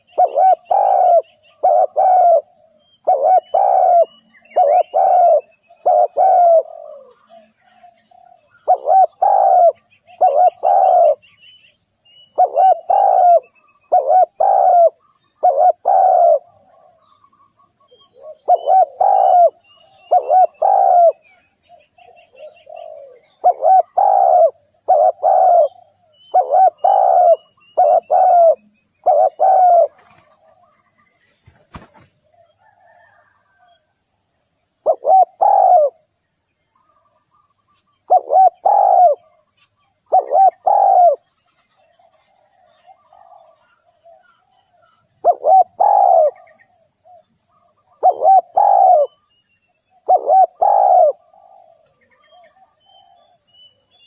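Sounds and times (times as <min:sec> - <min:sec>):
dove cooing: 0:00.0 - 0:11.2, 0:12.3 - 0:17.2, 0:17.8 - 0:33.8, 0:34.8 - 0:36.1, 0:38.1 - 0:39.4, 0:40.1 - 0:49.2, 0:49.9 - 0:53.4
small birds chirping: 0:00.0 - 0:33.9, 0:34.6 - 0:54.0.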